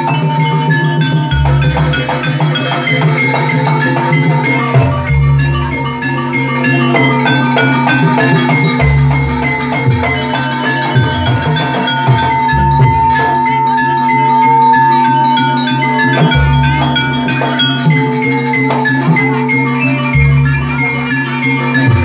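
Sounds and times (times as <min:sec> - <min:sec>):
drum strokes: 0:00.0 - 0:13.8, 0:15.3 - 0:22.0
gamelan music over loudspeakers: 0:00.0 - 0:22.0
metallophones ringing short notes: 0:00.0 - 0:22.0.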